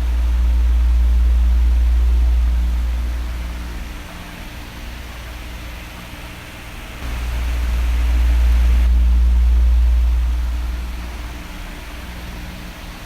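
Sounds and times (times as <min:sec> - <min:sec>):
electric fan blowing: 0:00.0 - 0:13.0.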